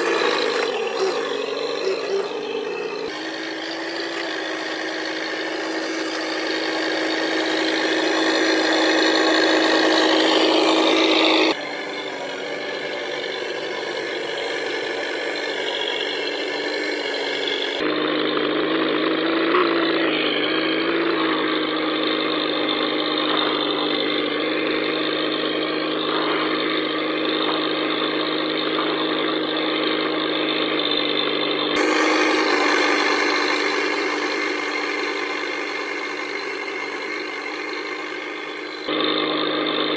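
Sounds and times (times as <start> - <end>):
simulated engine hum: 0.0 - 39.9.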